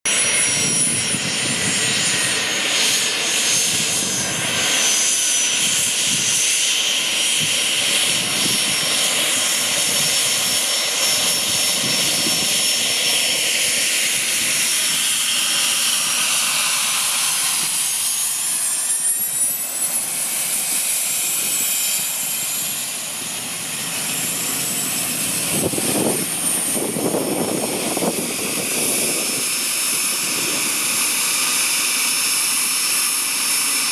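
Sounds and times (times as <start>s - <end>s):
jet engines whining at taxi power: 0.1s - 33.9s.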